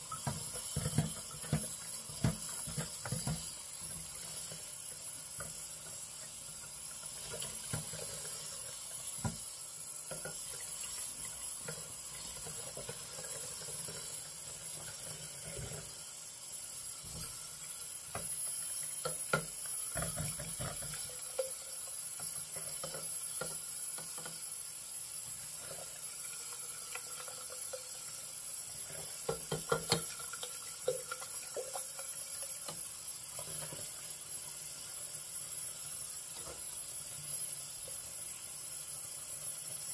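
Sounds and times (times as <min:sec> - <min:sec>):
water running in a sink: 0:00.0 - 0:39.9.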